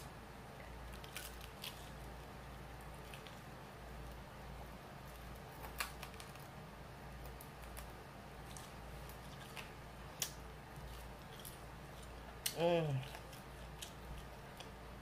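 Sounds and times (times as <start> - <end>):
person gnawing and sucking bone: 0.6 - 6.6, 7.2 - 15.0.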